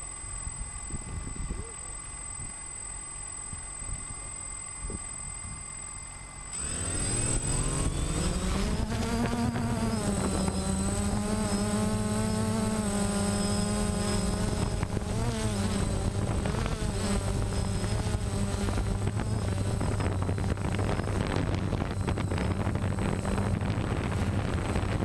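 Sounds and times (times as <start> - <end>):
drone propellers buzzing whine: 0.0 - 25.0.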